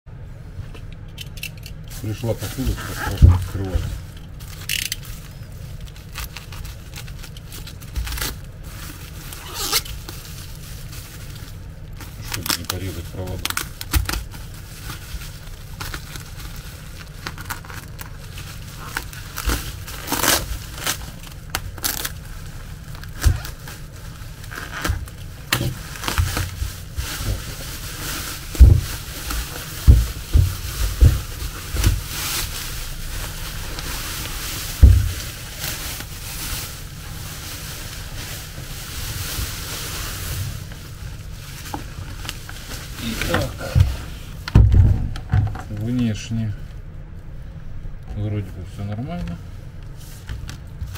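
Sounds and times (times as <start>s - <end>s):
plastic and bubble wrap crinkling: 1.2s - 50.9s.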